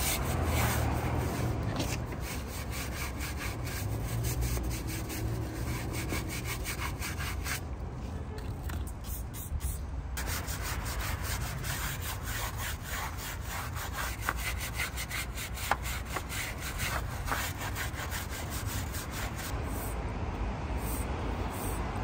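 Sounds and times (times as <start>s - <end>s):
hand scrubbing motorcycle: 0.0s - 7.6s, 9.0s - 20.0s.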